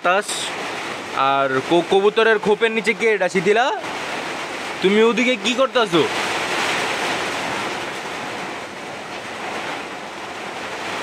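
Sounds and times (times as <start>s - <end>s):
gusty storm wind: 0.0s - 11.0s
light rain: 0.0s - 11.0s.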